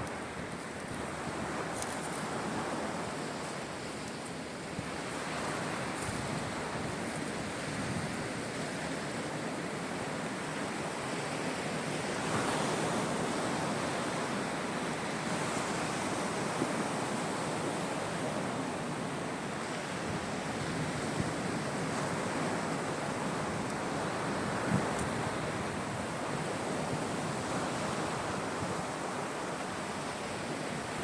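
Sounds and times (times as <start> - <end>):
waves breaking on shore: 0.0 - 31.0.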